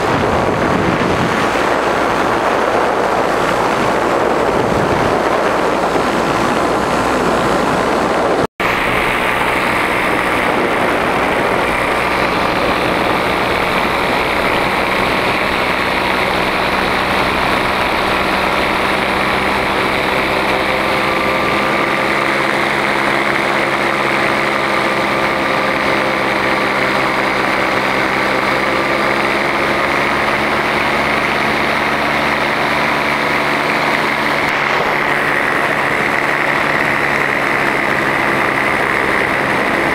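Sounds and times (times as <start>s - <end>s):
engine and propeller running: 0.0s - 39.9s
wind noise on microphone: 0.0s - 39.9s.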